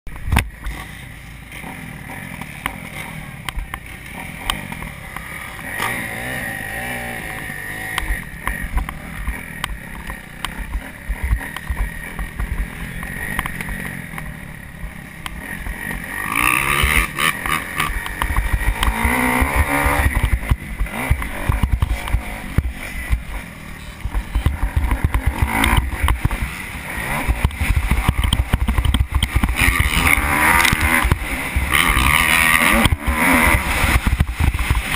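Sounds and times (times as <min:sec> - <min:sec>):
motocross engine revving: 0:00.1 - 0:34.9.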